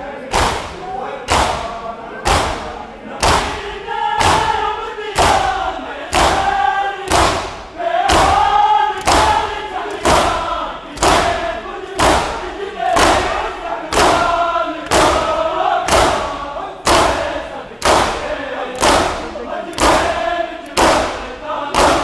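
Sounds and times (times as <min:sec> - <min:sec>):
crowd chanting a lament: 0:00.0 - 0:22.0
crowd striking chests in unison: 0:00.2 - 0:22.0.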